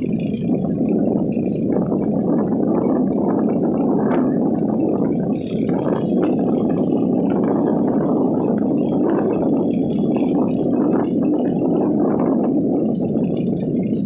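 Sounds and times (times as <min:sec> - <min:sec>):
water gurgling: 0:00.0 - 0:14.0.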